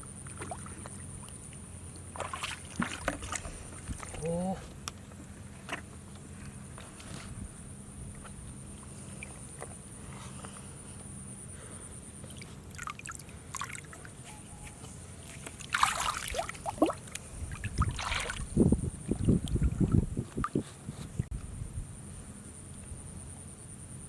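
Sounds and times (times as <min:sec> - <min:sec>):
water splashing and sloshing: 0:00.0 - 0:07.4, 0:08.0 - 0:11.2, 0:11.9 - 0:21.3.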